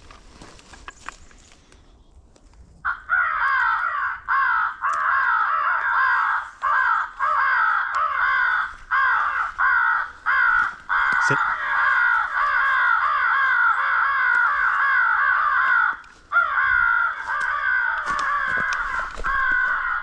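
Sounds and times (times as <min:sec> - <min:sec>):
crow caller caws: 0:02.8 - 0:20.0.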